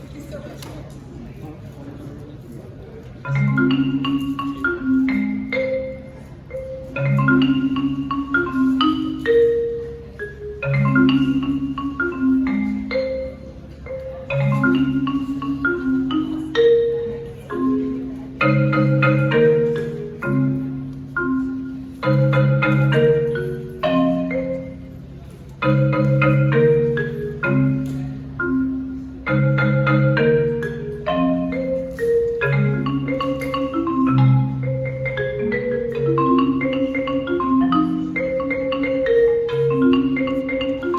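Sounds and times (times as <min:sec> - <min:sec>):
marimba played with mallets: 0:02.6 - 0:40.9.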